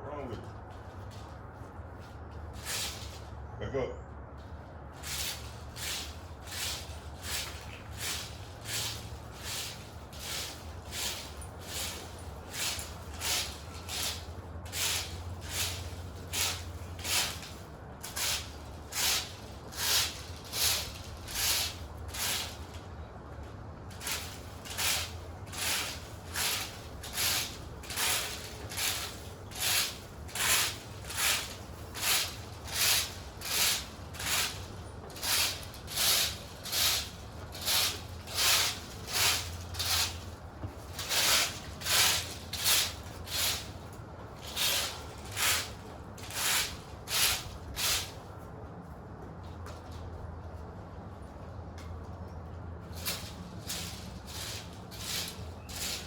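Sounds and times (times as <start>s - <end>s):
broom sweeping: 0.7s - 3.4s, 4.4s - 23.1s, 23.9s - 48.4s, 52.9s - 56.0s.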